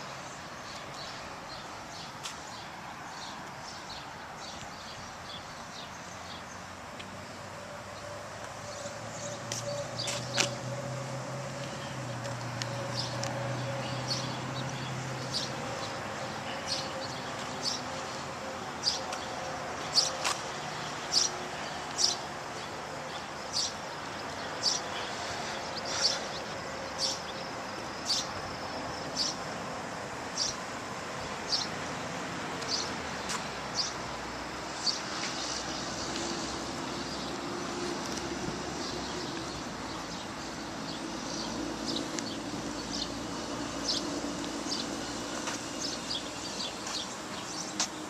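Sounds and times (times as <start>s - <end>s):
distant road traffic hum: 0.0s - 48.0s.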